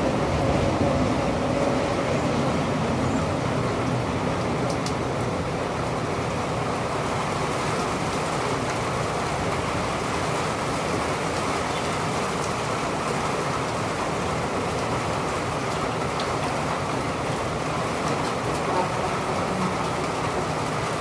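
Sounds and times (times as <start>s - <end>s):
steady downpour of rain: 0.0s - 21.0s.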